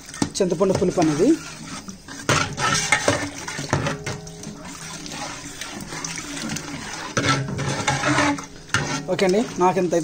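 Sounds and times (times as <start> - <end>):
water pouring into a pot: 0.0 - 10.0.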